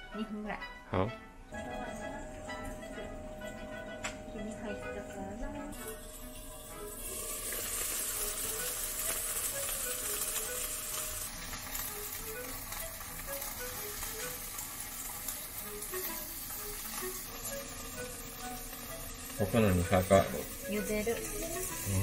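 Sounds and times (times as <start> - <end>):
soft background music: 0.0 - 22.0
peas sizzling in a frying pan: 1.6 - 22.0.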